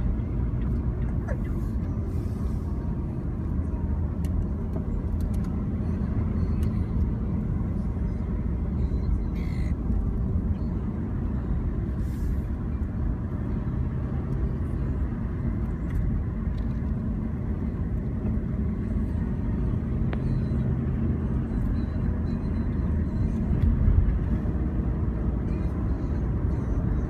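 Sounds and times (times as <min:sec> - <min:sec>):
car road and engine rumble: 0:00.0 - 0:27.0.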